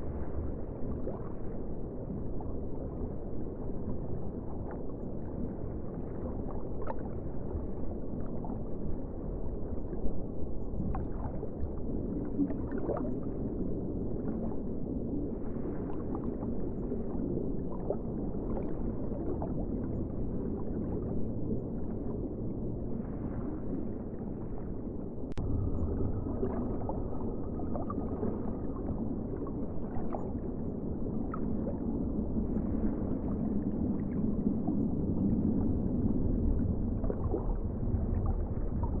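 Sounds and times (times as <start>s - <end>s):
muffled ocean water rush: 0.0s - 39.0s
water gurgles and clicks: 0.0s - 39.0s.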